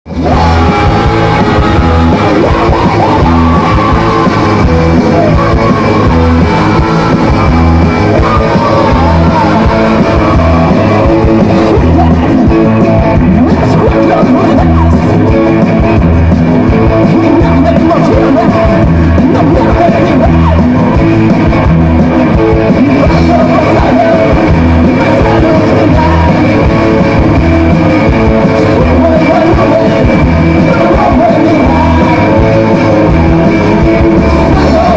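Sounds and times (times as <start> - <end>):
punk rock band playing live: 0.0 - 34.9.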